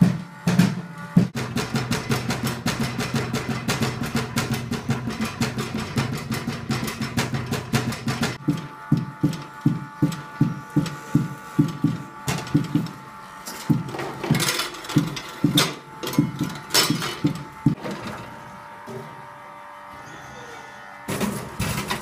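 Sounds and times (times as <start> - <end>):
faint mechanical hum: 0.0 - 22.0.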